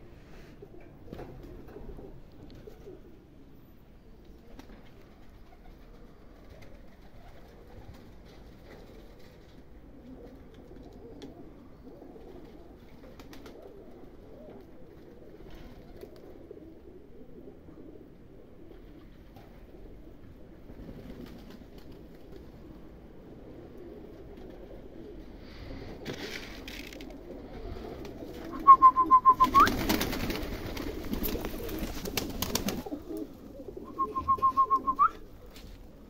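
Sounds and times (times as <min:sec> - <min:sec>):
pigeons cooing: 0:00.0 - 0:03.8, 0:04.4 - 0:36.0.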